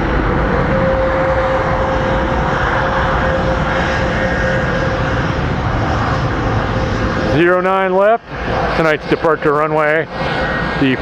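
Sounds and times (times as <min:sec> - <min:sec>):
jet engines roaring at takeoff: 0:00.0 - 0:11.0.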